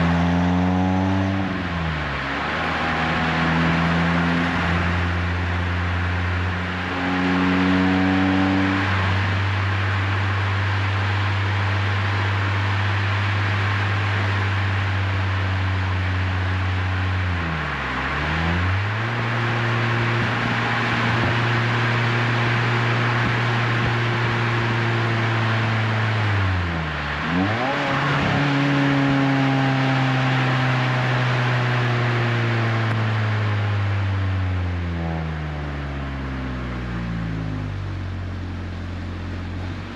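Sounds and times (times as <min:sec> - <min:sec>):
car engine at steady revs: 0:00.0 - 0:39.9
road and wind noise: 0:00.0 - 0:39.9.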